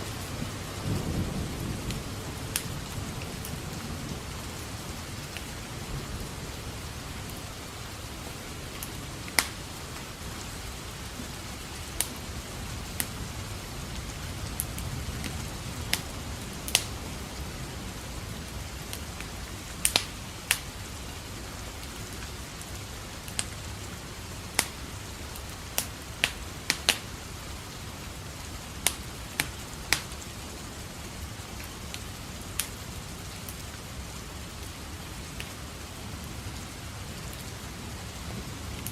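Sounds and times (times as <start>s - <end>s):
rain falling: 0.0s - 38.9s
wood fire crackling: 0.0s - 38.9s.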